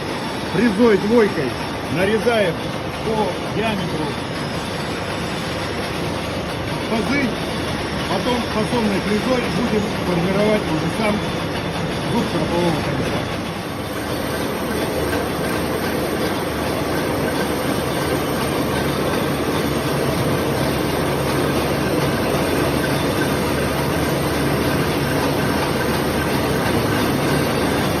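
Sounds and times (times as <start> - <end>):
milling machine cutting: 0.0 - 28.0.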